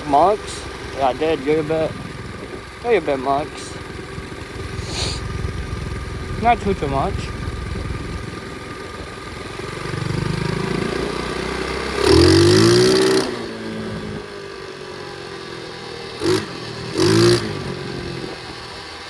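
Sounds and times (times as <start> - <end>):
pit bike engine revving: 0.0 - 19.0.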